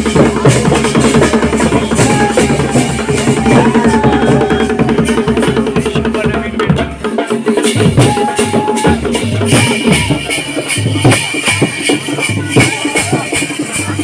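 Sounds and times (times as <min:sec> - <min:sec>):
fast drumming with sticks: 0:00.0 - 0:14.0.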